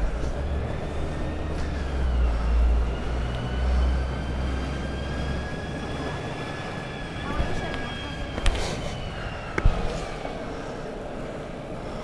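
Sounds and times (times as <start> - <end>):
longboard wheels rolling on asphalt: 0.0 - 12.0.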